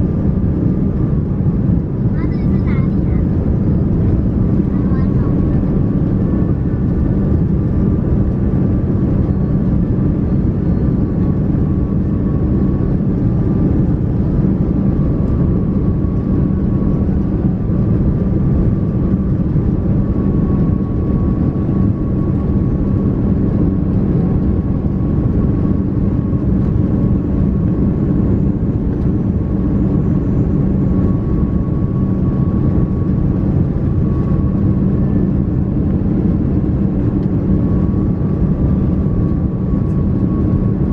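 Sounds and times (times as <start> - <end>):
aircraft engines droning: 0.0 - 40.9.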